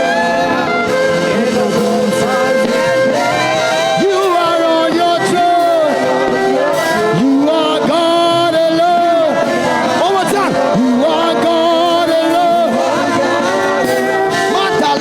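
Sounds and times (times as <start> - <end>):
instrumental backing: 0.0 - 15.0
person singing long held notes: 0.0 - 15.0.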